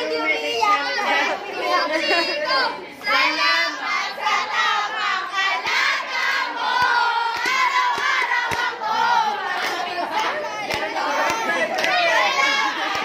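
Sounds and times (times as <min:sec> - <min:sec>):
group singing together: 0:00.0 - 0:13.0.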